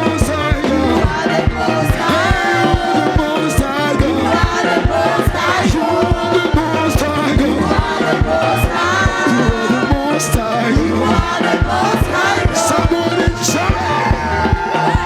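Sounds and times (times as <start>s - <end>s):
bass guitar: 0.0s - 15.0s
drums: 0.0s - 15.0s
gospel music with singing: 0.0s - 15.0s.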